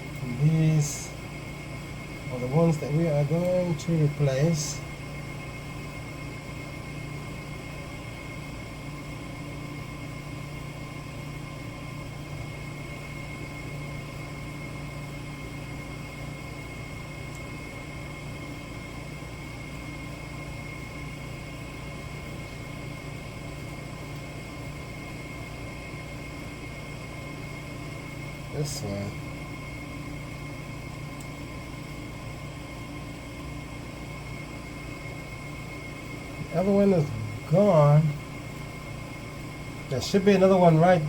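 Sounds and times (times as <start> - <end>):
machine hum and hiss: 0.0 - 41.0
thin high whine: 0.0 - 41.0.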